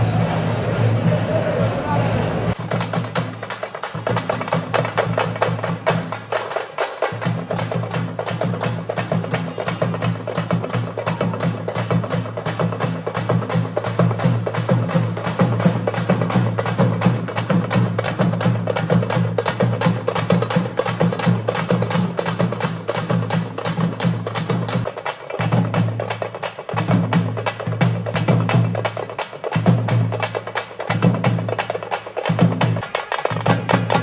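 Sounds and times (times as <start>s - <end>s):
rapid dense percussion: 0.0s - 34.0s.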